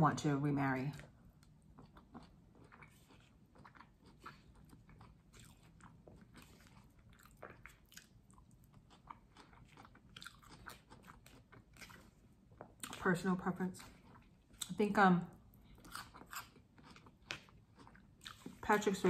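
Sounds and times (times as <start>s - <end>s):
chewing crisp food: 0.9s - 19.0s.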